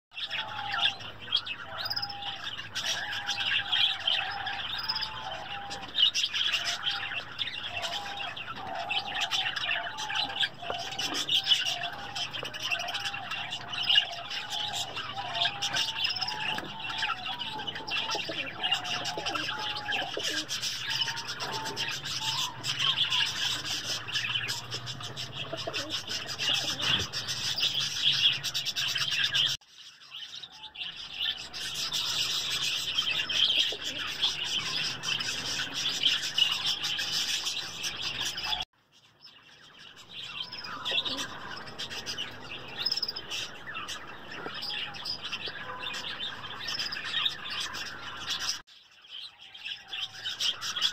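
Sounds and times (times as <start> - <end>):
small birds chirping: 0.1 - 50.9
pigeons cooing: 0.2 - 29.6, 30.5 - 38.6, 40.2 - 48.6.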